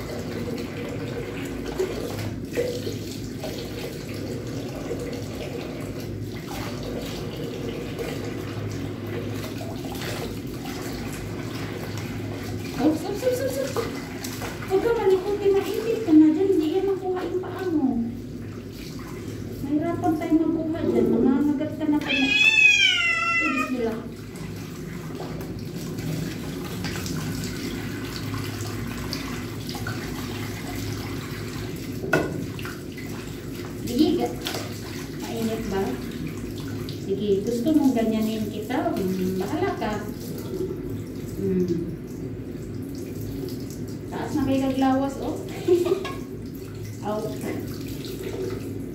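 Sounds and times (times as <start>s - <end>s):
tap running into a basin: 0.0s - 48.9s
water splashing over a cat: 0.0s - 48.9s.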